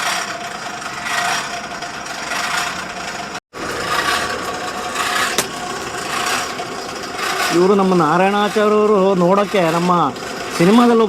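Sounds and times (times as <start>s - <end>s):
forge blower whirring: 0.0s - 11.0s.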